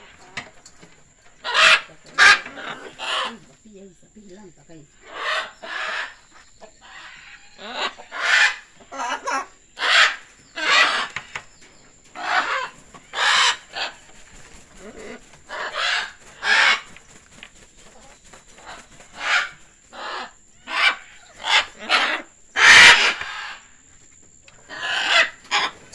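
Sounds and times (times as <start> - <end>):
macaws squawking: 1.2 - 3.6, 4.9 - 11.5, 12.1 - 17.1, 17.8 - 23.7, 24.6 - 25.9.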